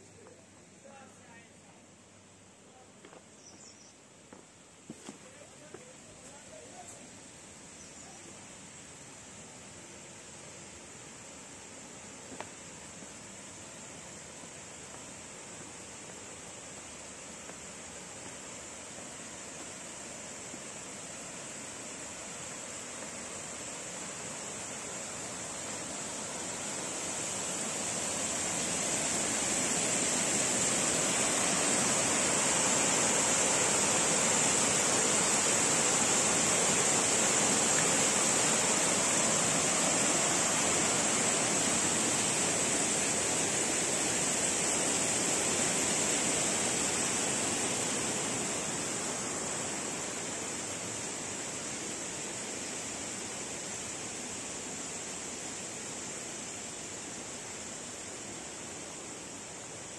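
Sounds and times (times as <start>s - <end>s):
steady high hiss: 0.0s - 59.9s
stream water rushing: 8.5s - 59.9s.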